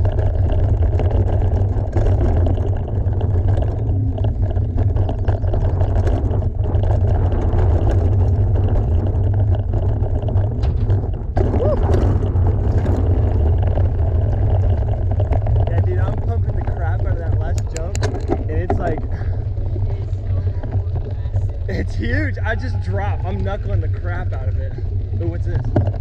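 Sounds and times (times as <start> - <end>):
bike clicks and rattles: 0.0 - 26.0
tyres rolling over dirt: 0.0 - 26.0
wind rumble on microphone: 0.0 - 26.0.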